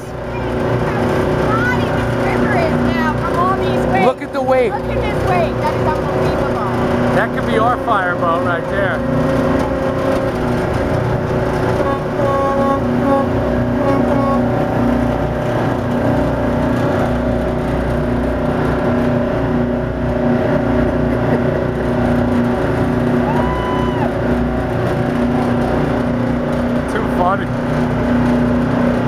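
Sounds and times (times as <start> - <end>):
diesel engine running hard: 0.0 - 29.0
rush of wake water: 0.0 - 29.0
wind: 0.0 - 29.0.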